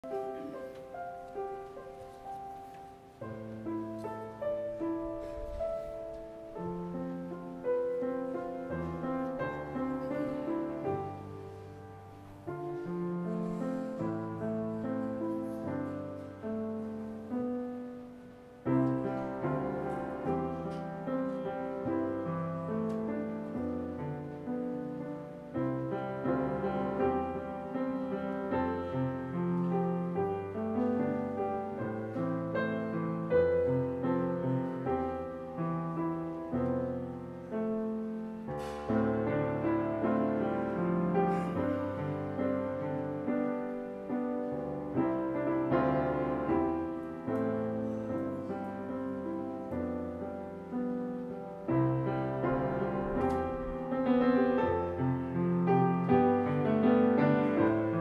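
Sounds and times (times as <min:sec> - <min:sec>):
piano playing hymn chords: 0:00.0 - 0:58.0.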